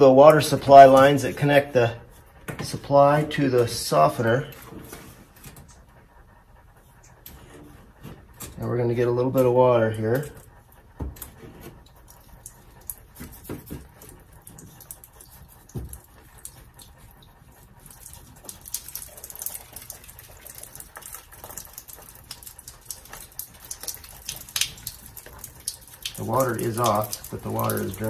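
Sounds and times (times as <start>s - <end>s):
water trickling from pipe: 0.0s - 5.9s, 6.8s - 28.0s.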